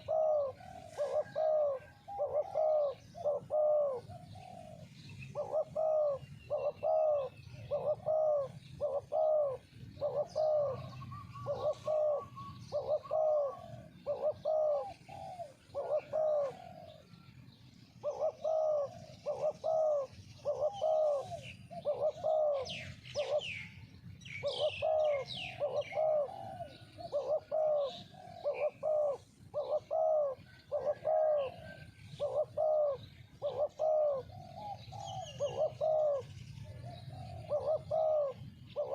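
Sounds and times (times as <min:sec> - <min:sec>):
doves cooing: 0:00.0 - 0:38.9
small birds chirping: 0:00.0 - 0:38.9.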